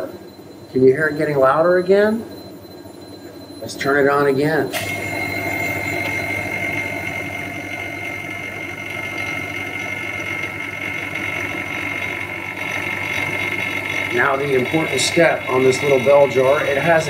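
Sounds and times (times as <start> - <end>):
electric vacuum pump whining: 0.0 - 17.0.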